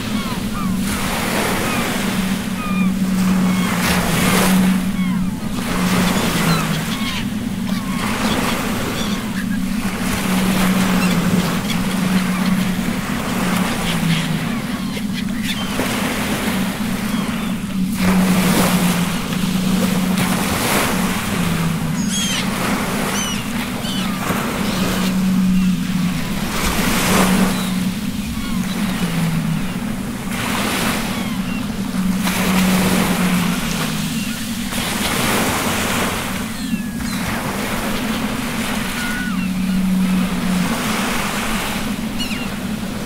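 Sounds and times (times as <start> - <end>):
faint bird calls: 0.0 - 43.0
ocean waves breaking: 0.0 - 43.0
steady low hum: 0.0 - 43.0.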